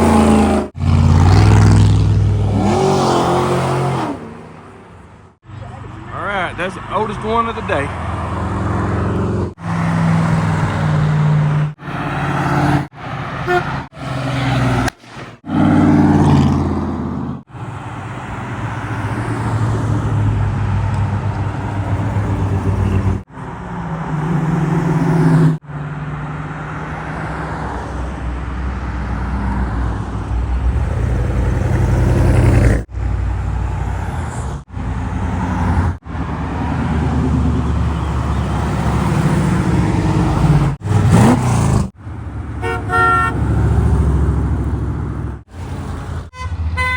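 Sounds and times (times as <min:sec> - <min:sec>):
car engines driving past: 0:00.0 - 0:46.9.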